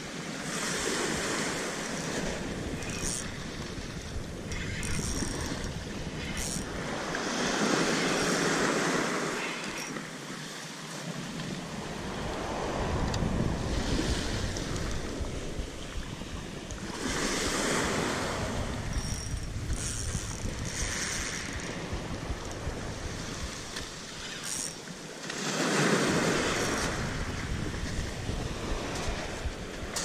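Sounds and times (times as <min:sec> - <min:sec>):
sea waves washing in: 0:00.0 - 0:04.9, 0:05.5 - 0:30.0
wind rumbling on microphone: 0:00.0 - 0:09.4, 0:11.2 - 0:24.8, 0:25.5 - 0:30.0.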